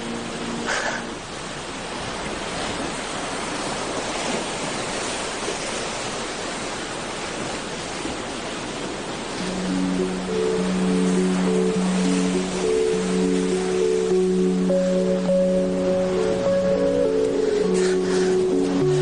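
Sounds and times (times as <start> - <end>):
sea water rushing: 0.0 - 19.0
wind: 0.0 - 19.0.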